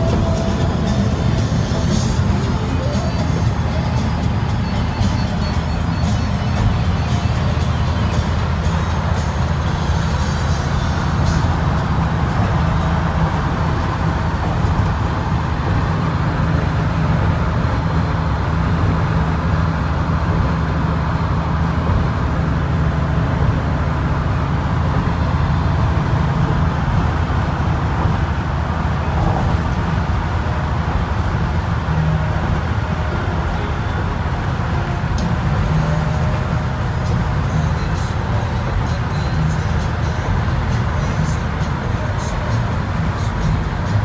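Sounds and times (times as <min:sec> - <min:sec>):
road and tyre noise: 0:00.0 - 0:44.0
truck engine cruising: 0:00.0 - 0:44.0.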